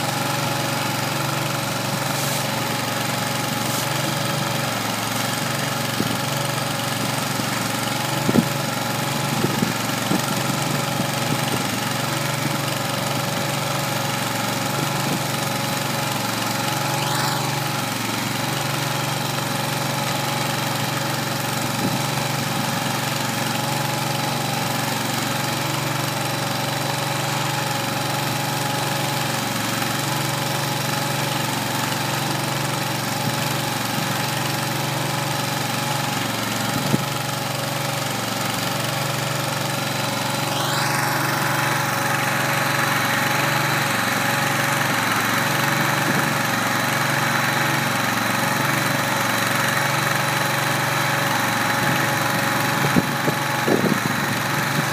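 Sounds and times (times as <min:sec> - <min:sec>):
gas engine running: 0:00.0 - 0:54.9.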